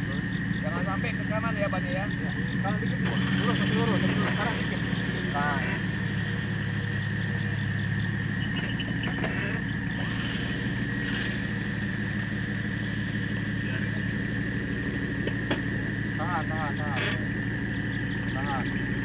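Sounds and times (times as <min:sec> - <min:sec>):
steady high-pitched whine: 0:00.0 - 0:19.0
vehicle engine running at low revs: 0:00.0 - 0:19.0.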